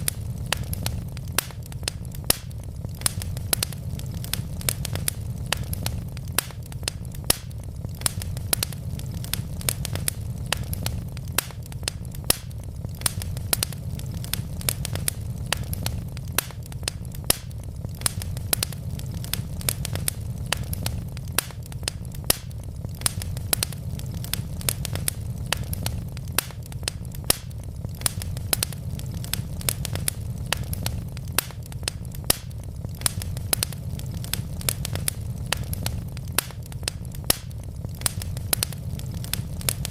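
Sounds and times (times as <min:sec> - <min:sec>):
burning logs crackling: 0:00.0 - 0:39.9
low fire rumble: 0:00.0 - 0:39.9.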